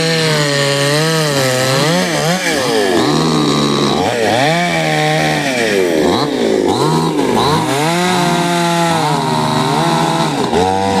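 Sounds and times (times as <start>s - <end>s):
chainsaw cutting through tree: 0.0s - 11.0s.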